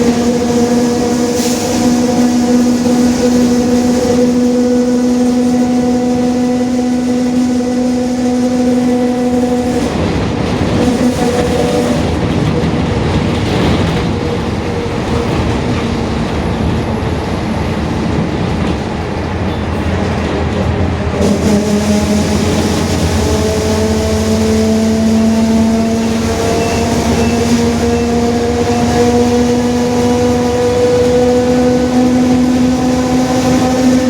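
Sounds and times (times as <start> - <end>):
bus differential whining: 0.0 - 34.0
road and engine rumble: 0.0 - 34.0.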